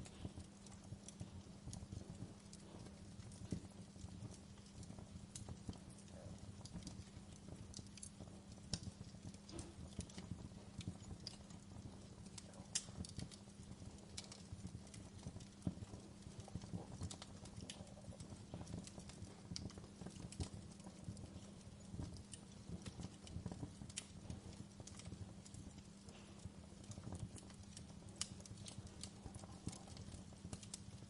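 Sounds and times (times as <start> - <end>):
faint low hum: 0.0 - 31.0
wood fire crackling and popping: 0.0 - 31.0.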